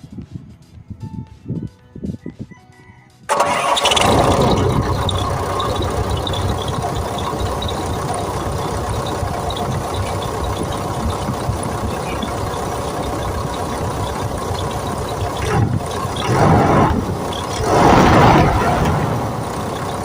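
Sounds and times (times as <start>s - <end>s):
excavator diesel engine starting and idling: 3.3s - 20.0s.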